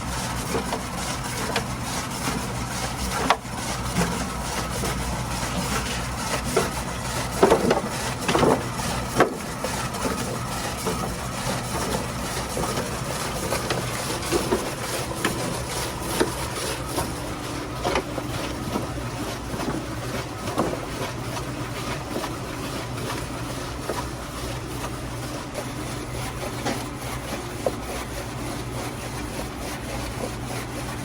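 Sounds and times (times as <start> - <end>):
food machine motor hum: 0.0 - 31.0.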